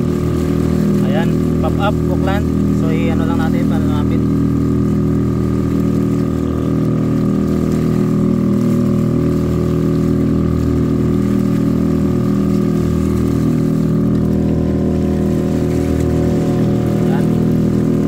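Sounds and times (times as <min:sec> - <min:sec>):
water noise: 0:00.0 - 0:18.0.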